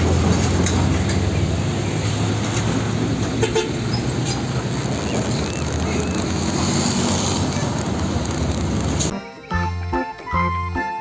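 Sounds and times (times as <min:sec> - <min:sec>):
truck driving past: 0:00.0 - 0:09.1.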